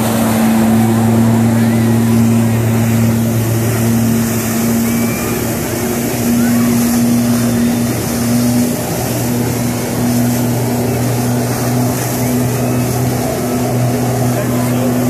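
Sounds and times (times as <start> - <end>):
rush of water jets: 0.0 - 15.0
watercraft engine running: 0.0 - 15.0.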